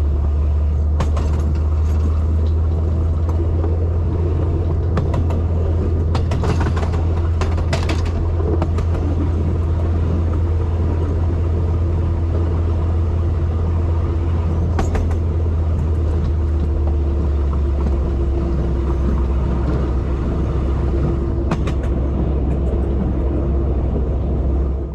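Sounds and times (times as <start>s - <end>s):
vehicle engine rumble: 0.0s - 24.9s.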